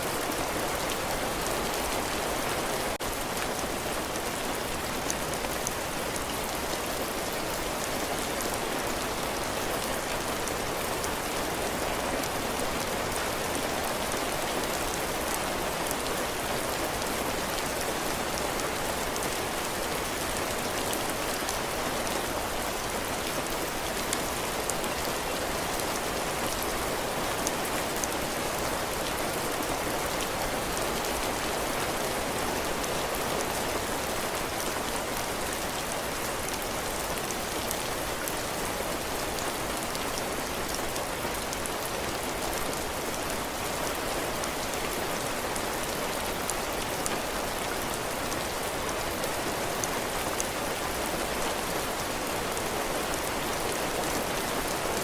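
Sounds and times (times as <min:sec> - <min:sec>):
heavy rain on roof: 0:00.0 - 0:55.0.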